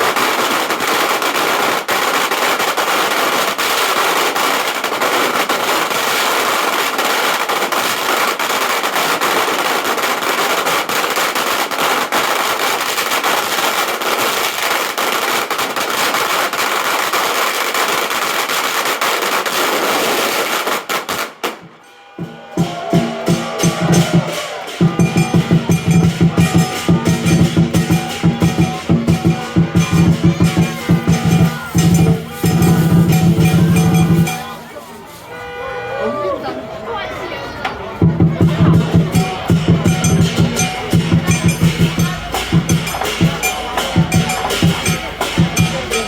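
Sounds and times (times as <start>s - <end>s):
firecrackers crackling: 0.0s - 46.0s.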